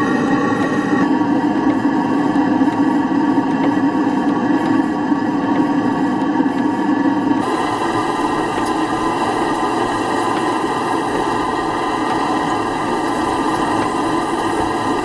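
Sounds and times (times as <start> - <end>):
steam engine running: 0.0 - 15.0.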